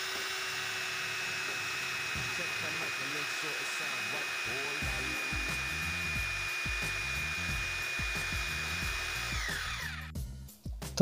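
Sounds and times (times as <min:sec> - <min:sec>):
electric drill boring into concrete: 0:00.0 - 0:10.2.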